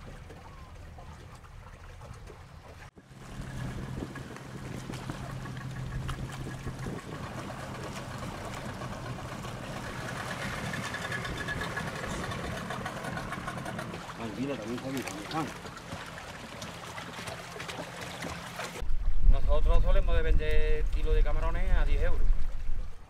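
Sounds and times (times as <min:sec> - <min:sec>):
boat motor running: 0:00.0 - 0:18.8
water noise: 0:00.0 - 0:23.0.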